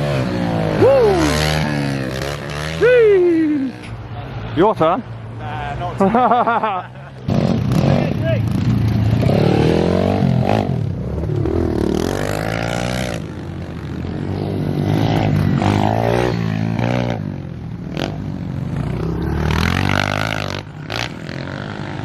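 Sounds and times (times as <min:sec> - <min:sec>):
pit bike engine revving: 0:00.0 - 0:03.9, 0:06.2 - 0:13.4, 0:14.0 - 0:22.0.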